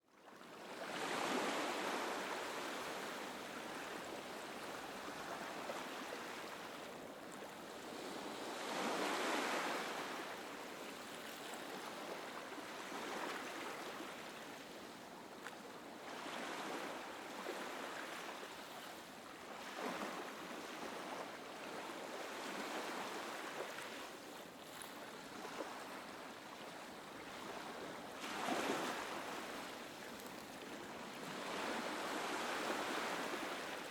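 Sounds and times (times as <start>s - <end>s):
gentle ocean waves: 0.1s - 33.9s.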